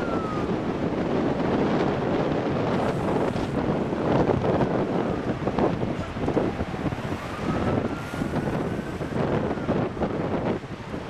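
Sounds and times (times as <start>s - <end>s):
vehicle and road noise: 0.0s - 11.0s
wind buffeting microphone: 0.0s - 11.0s.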